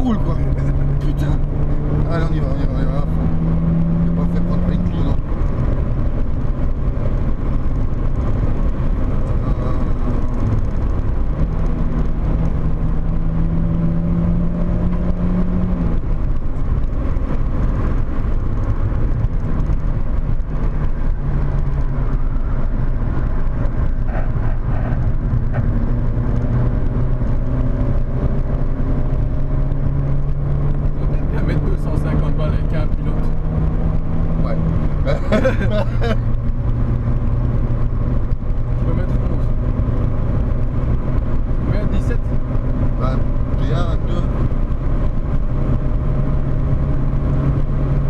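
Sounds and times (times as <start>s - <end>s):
car engine revving: 0.0s - 48.0s
road and wind noise: 0.0s - 48.0s.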